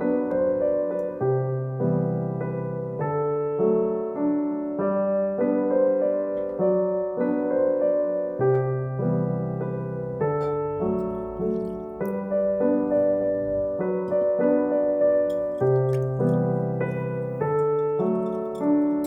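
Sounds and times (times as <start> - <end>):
gentle piano tune: 0.0 - 19.0.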